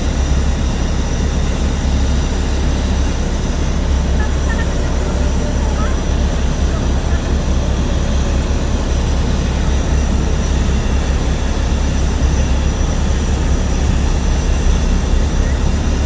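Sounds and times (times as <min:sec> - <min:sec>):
airplane engines running: 0:00.0 - 0:16.0.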